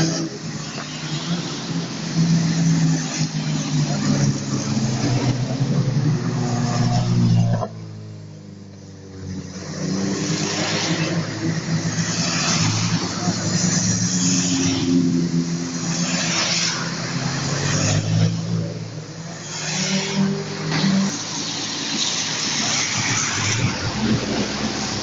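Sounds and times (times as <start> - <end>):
car engines passing: 0.0 - 25.0
tyres hissing on wet asphalt: 0.0 - 25.0.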